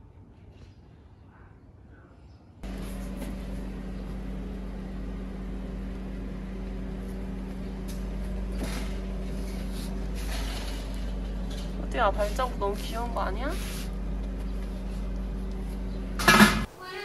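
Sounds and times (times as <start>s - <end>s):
steady machine hum: 2.6s - 16.8s.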